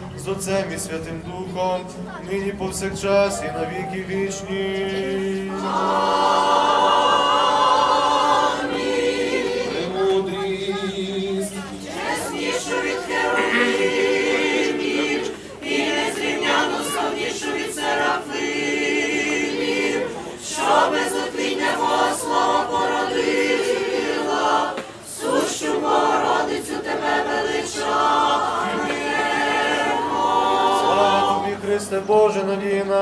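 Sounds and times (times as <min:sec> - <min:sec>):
choir singing chant a cappella: 0:00.0 - 0:33.0.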